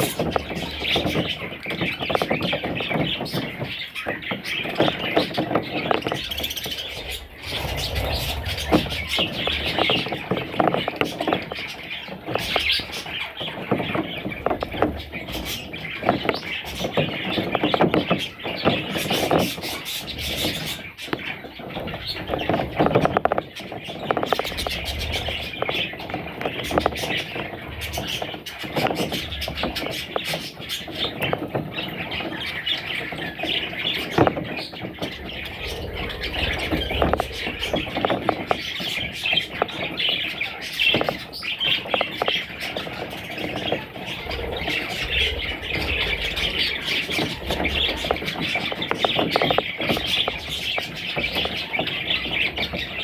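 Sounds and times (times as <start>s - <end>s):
budgerigars chirping and squealing: 0.0s - 53.0s.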